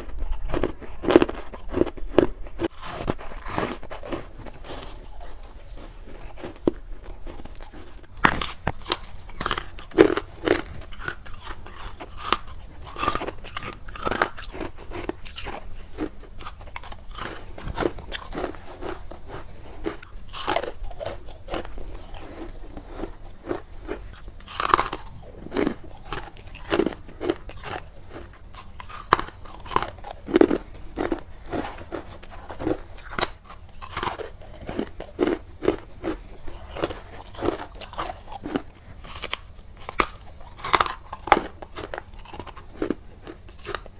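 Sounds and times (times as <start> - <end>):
chewing crunchy frost: 0.0 - 43.9.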